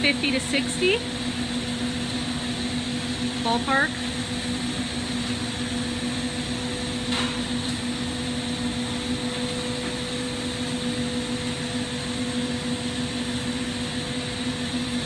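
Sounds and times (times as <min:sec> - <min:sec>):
ventilation fan hum: 0:00.0 - 0:15.0.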